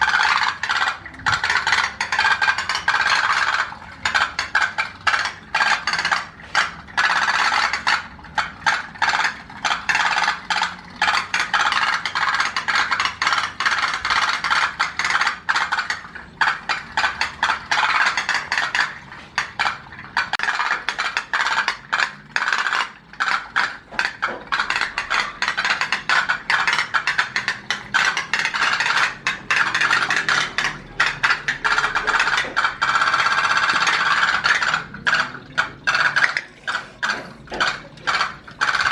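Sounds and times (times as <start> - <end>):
toy pop-pop boat clicking: 0.0 - 38.9.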